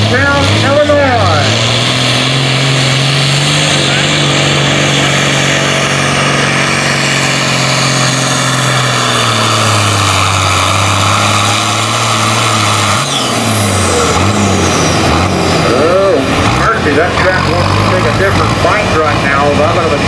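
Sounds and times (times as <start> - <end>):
tractor diesel engine running hard: 0.0 - 20.0.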